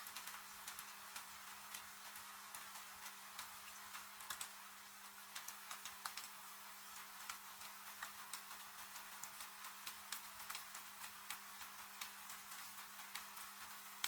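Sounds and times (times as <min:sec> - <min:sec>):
rain hiss: 0:00.0 - 0:14.0
wood fire crackling and popping: 0:00.0 - 0:14.0.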